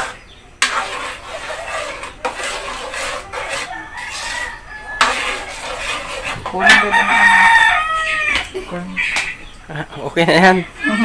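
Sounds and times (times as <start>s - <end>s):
spoon scraping metal pan: 0.0s - 9.4s.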